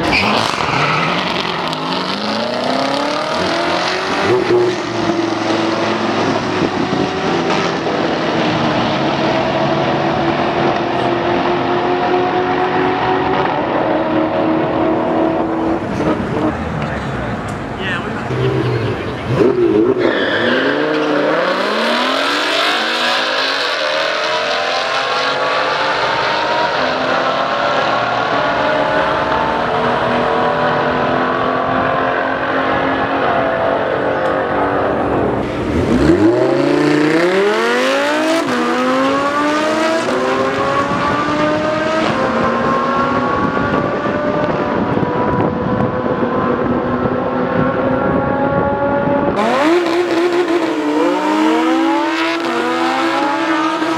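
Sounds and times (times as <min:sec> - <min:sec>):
racing car engines revving: 0:00.0 - 0:53.9.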